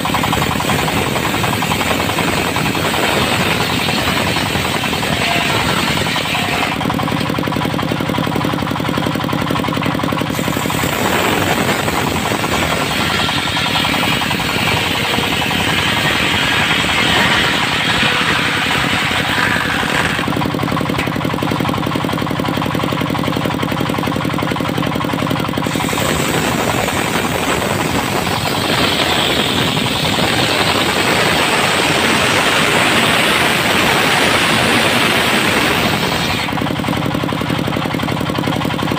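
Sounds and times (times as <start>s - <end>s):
machine running with rattle: 0.0s - 38.9s.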